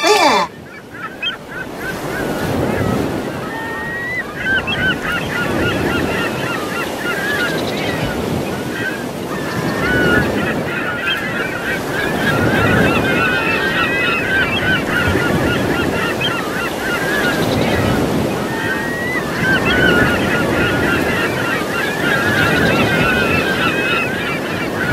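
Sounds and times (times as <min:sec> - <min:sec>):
flock of birds calling: 0:00.0 - 0:24.9.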